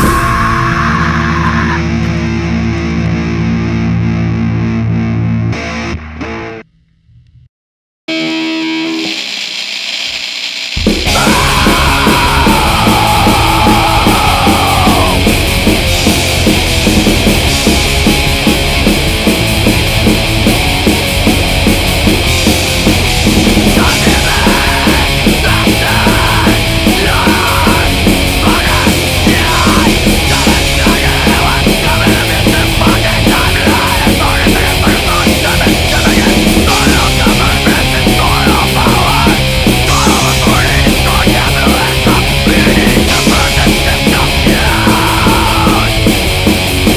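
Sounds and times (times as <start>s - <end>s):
heavy metal band playing: 0.0s - 6.8s, 8.1s - 46.9s.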